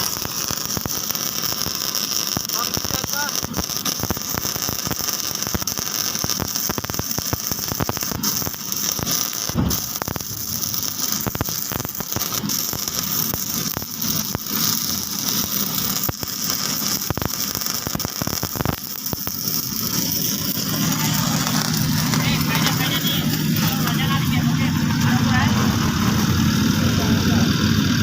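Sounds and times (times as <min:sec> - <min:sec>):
arc welding crackling hiss: 0:00.0 - 0:28.0.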